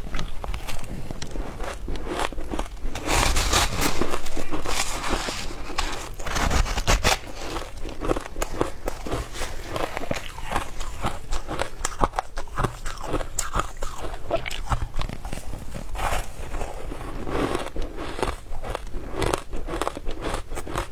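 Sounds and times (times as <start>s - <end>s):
ice crunching between teeth: 0.0s - 20.9s.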